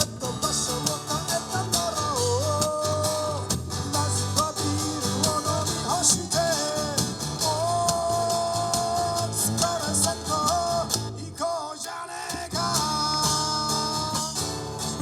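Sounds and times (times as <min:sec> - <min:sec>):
strummed acoustic guitar: 0:00.0 - 0:11.4, 0:12.2 - 0:15.0
man singing: 0:00.0 - 0:15.0.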